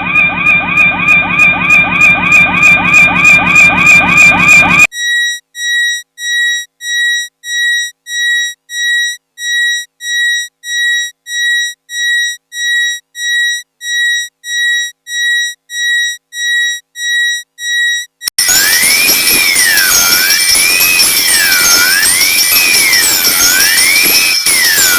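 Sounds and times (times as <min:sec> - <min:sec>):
high buzzy electronic beeps: 0:00.0 - 0:24.9.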